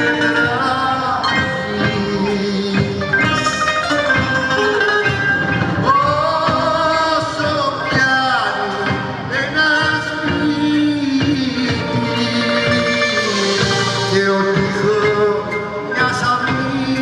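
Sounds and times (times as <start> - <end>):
man singing into a microphone: 0.0 - 4.5, 5.6 - 17.0
band playing: 0.0 - 17.0.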